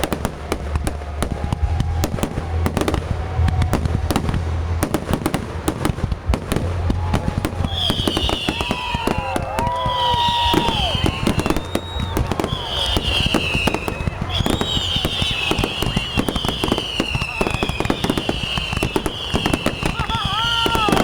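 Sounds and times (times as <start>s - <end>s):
fireworks crackling and banging: 0.0s - 21.0s
rumble of fireworks booms: 0.0s - 21.0s
whistling fireworks: 0.0s - 21.0s.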